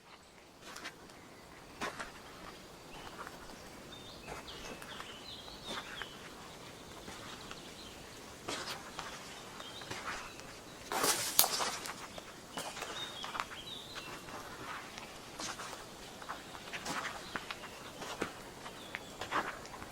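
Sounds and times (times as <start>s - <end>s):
small bird chirping: 1.0s - 19.2s
footsteps crunching through leaf litter: 3.9s - 19.9s.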